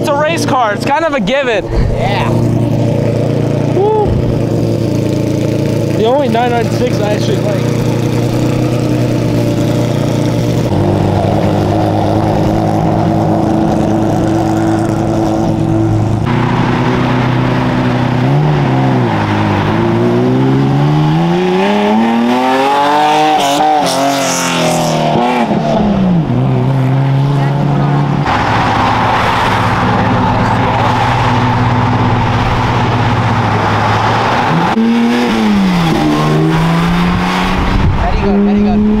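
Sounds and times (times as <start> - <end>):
race car engine idling and revving: 0.0 - 39.0.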